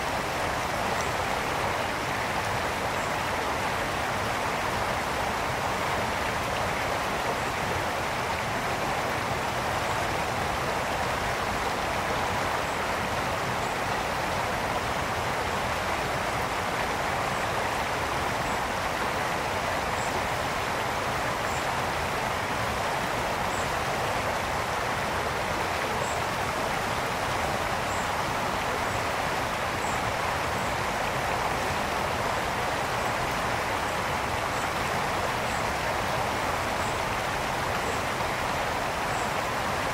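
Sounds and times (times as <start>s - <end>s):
brook flowing: 0.0s - 39.9s.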